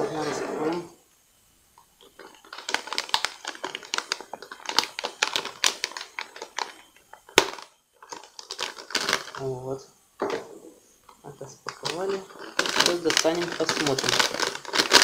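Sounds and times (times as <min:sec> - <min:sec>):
plastic bag crinkling: 0:02.0 - 0:10.4, 0:11.0 - 0:15.0.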